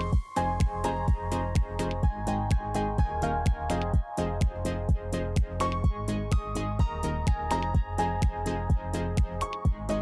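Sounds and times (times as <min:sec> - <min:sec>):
electronic music with synth: 0:00.0 - 0:10.0.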